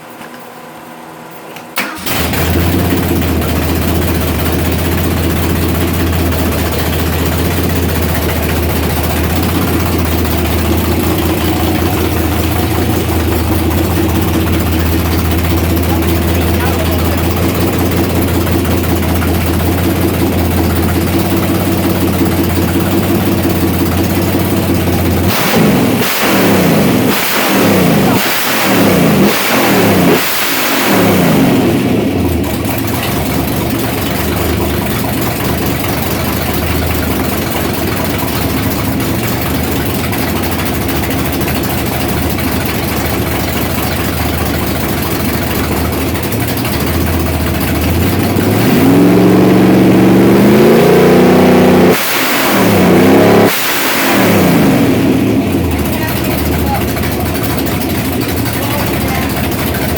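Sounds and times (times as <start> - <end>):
engine idling and revving: 1.8 - 59.9.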